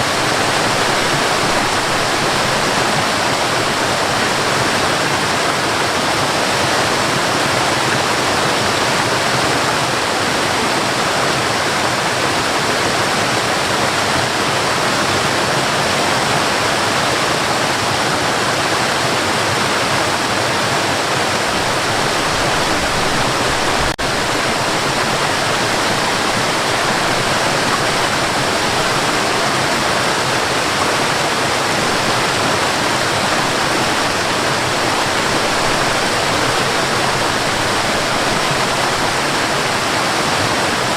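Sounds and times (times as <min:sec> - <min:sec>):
waterfall rushing and splashing: 0:00.0 - 0:40.9.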